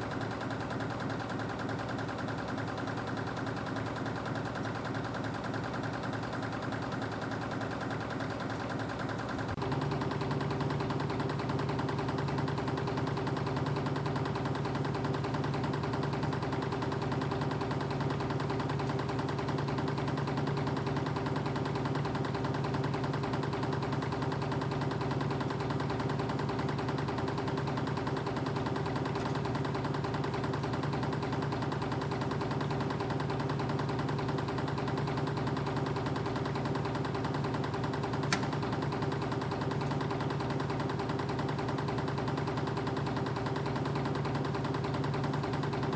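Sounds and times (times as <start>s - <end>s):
spring machine humming and rattling: 0.0s - 45.9s.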